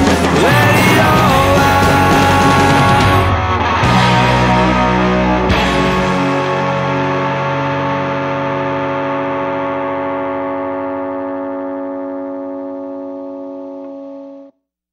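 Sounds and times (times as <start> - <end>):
distorted electric guitar chord ringing: 0.0 - 14.5.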